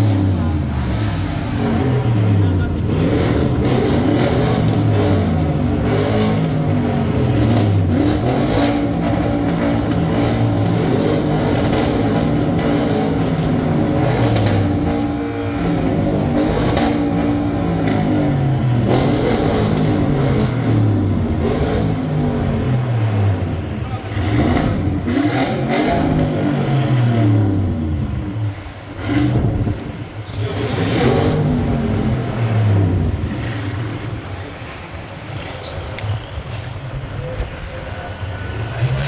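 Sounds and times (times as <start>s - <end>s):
exhaust cracks: 0.0s - 34.4s
car engines revving hard: 0.0s - 39.0s.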